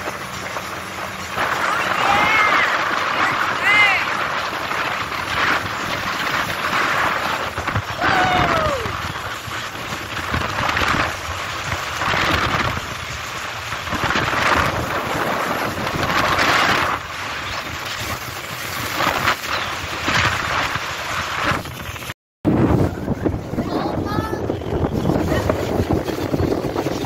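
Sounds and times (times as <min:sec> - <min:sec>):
water rushing past boat hull: 0:00.0 - 0:27.0
wind buffeting microphone: 0:00.0 - 0:27.0.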